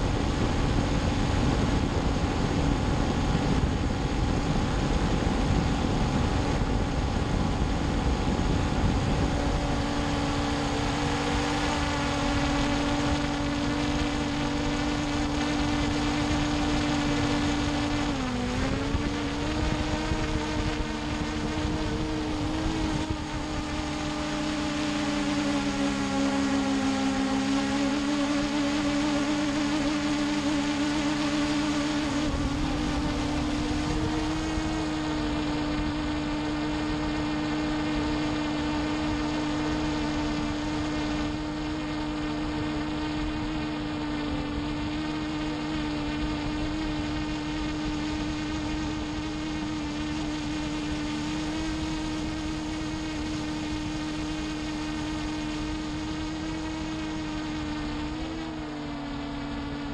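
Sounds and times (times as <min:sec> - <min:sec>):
drone propellers buzzing whine: 0:00.0 - 0:59.9.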